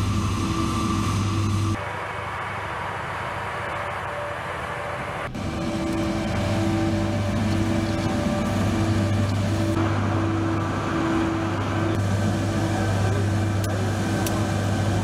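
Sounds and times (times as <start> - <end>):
high engine whine: 0.0 - 15.0
truck diesel engine running: 0.0 - 15.0.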